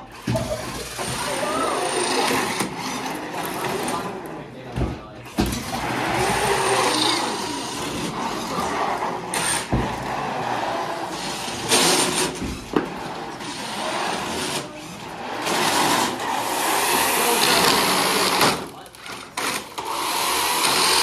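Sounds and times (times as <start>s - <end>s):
constant mechanical noise: 0.0s - 21.0s.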